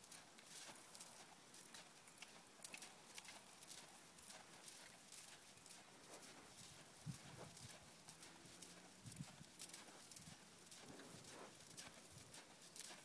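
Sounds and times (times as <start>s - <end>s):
horse hoofbeats in dirt: 0.0s - 13.0s.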